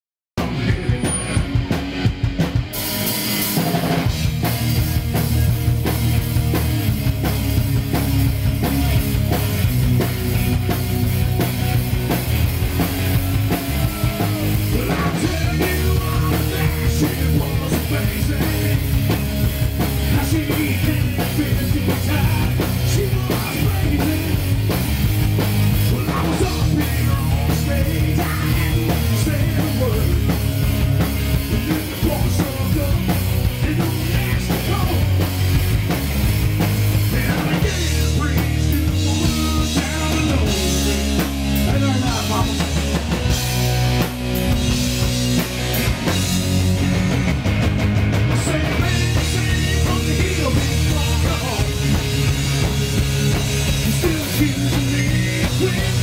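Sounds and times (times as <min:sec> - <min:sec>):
bass guitar: 0:00.4 - 0:56.0
drum kit beat: 0:00.4 - 0:56.0
electric guitar: 0:00.4 - 0:56.0.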